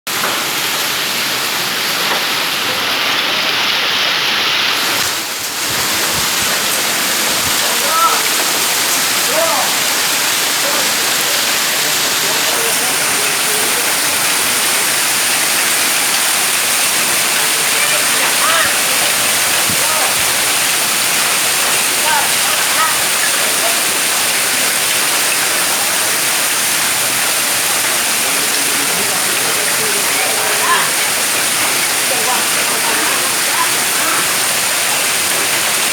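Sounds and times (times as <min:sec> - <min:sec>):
hail and heavy rain pelting: 0:00.1 - 0:35.9.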